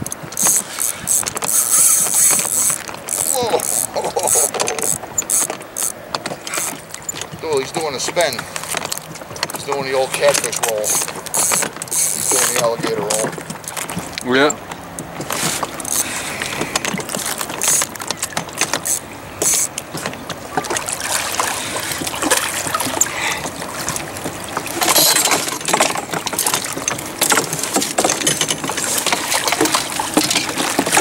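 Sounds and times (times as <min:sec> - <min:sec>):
water lapping against boat hull: 0:00.0 - 0:31.0.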